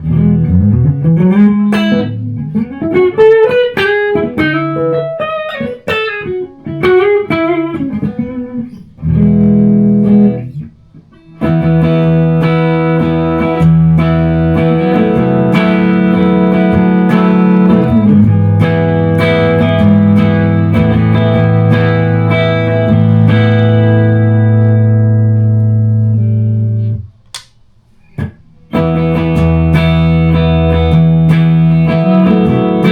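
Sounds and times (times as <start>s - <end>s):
electric guitar chords ringing: 0.0s - 27.0s, 28.2s - 32.9s
electric guitar lead lines: 0.0s - 32.9s.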